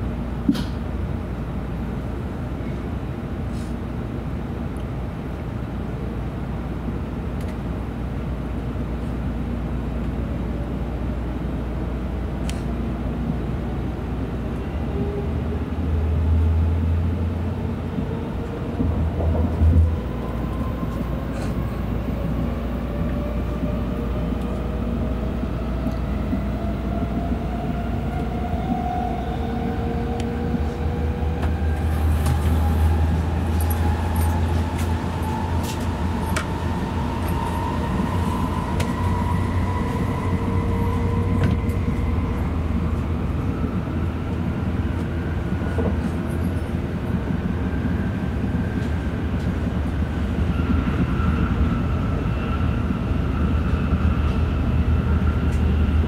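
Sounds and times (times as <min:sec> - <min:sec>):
train low rumble: 0:00.0 - 0:56.0.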